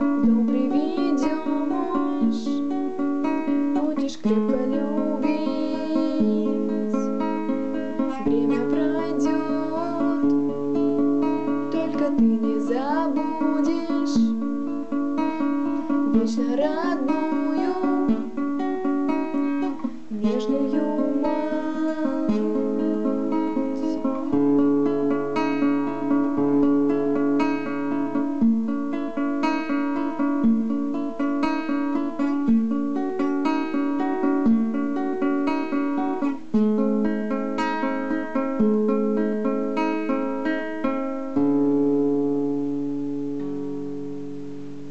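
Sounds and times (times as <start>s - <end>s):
guitar picking chords: 0.0s - 44.9s.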